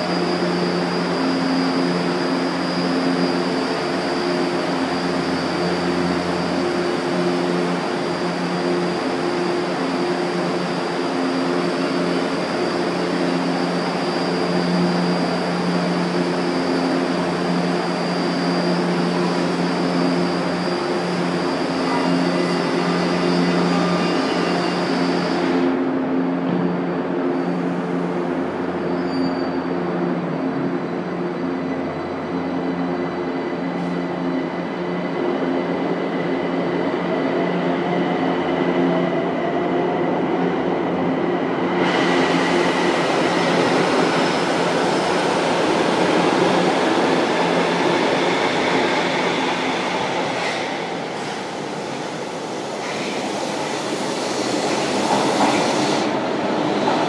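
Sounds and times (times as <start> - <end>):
train motors humming and whining: 0.0 - 29.0, 29.6 - 57.0
metro cars rushing past: 0.0 - 57.0.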